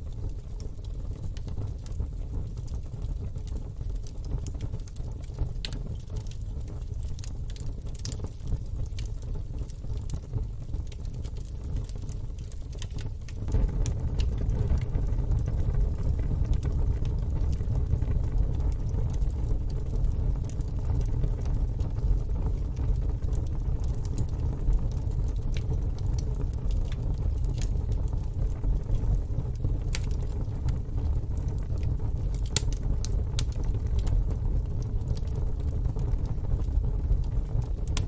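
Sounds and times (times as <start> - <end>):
low steady rumble: 0.0 - 38.0
wood fire crackling: 0.0 - 38.0.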